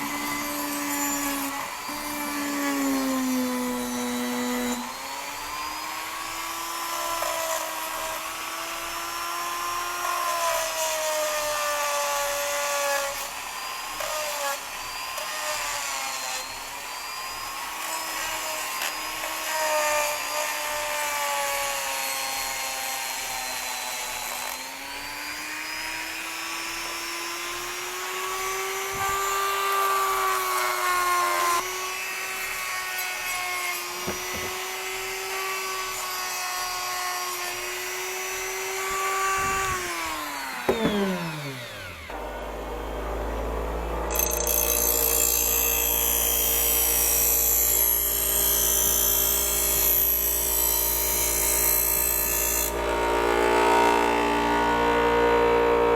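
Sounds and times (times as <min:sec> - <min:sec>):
electric power tool whining: 0:00.0 - 0:55.9.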